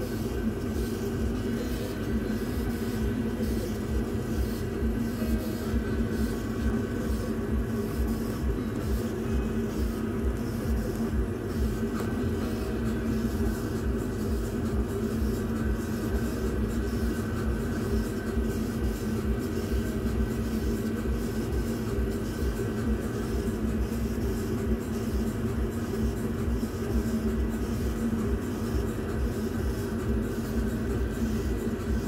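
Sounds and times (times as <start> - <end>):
drive motors whirring: 0.0 - 32.0
machine hum: 0.0 - 32.0.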